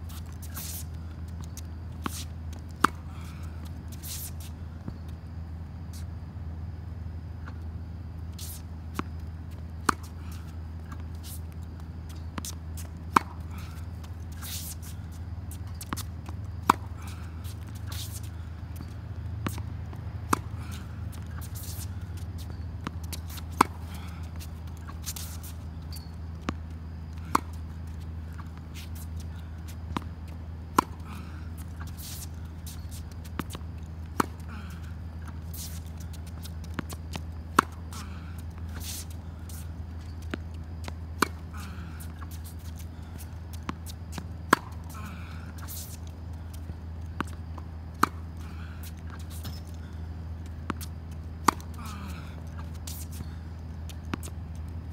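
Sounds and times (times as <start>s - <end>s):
shoes scuffing on court: 0.0s - 6.2s, 7.4s - 54.9s
steady low hum: 0.0s - 54.9s
racket hitting tennis ball: 9.7s - 49.7s, 50.4s - 54.4s.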